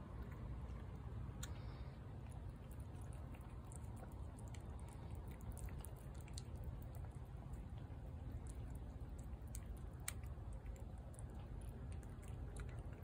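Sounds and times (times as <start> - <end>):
steady low rumble: 0.0 - 13.0
cat chewing clicks: 2.2 - 13.0.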